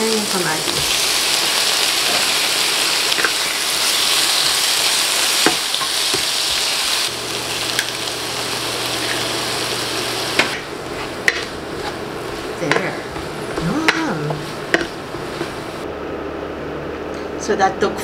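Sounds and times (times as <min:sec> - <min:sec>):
vegetables sizzling in hot oil: 0:00.0 - 0:15.8.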